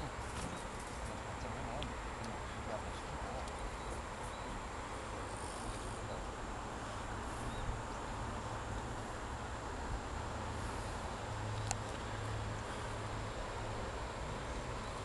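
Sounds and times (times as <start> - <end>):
crickets chirping: 0.0 - 15.0
outdoor background hiss: 0.0 - 15.0.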